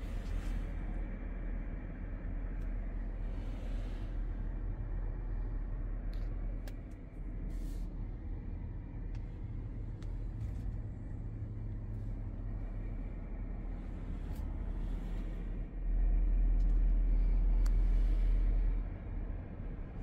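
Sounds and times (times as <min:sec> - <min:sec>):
van cabin rumble: 0:00.0 - 0:20.0.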